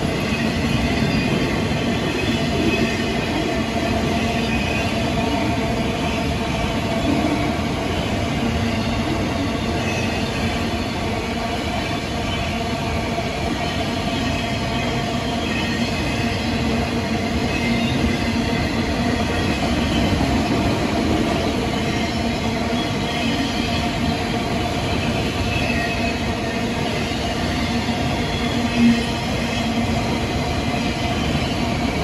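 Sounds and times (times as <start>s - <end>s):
train wheels rolling on rails: 0.0s - 32.0s.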